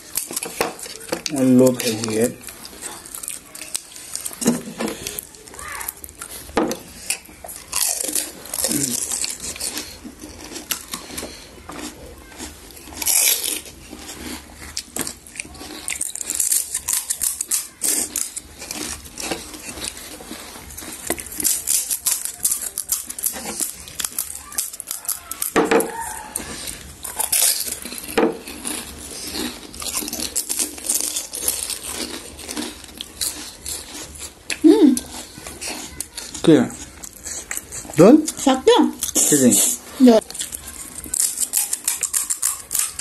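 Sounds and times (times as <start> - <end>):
crisp shells crunching when chewed: 0.0 - 43.0.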